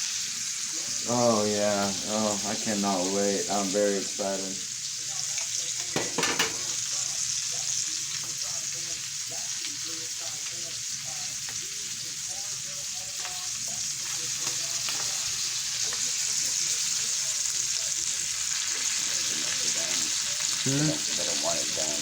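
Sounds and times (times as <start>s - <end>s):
steak sizzling in a frying pan: 0.0s - 22.0s.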